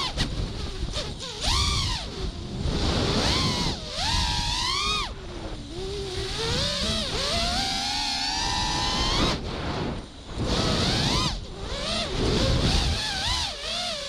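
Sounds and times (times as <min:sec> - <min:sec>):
low wind-like rumble: 0:00.0 - 0:14.0
quadcopter motors whining: 0:00.0 - 0:14.0.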